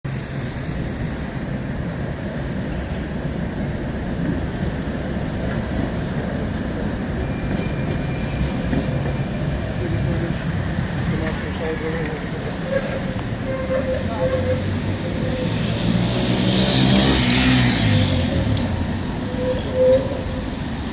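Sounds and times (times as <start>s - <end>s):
tram wheels rumbling on rails: 0.1s - 20.9s.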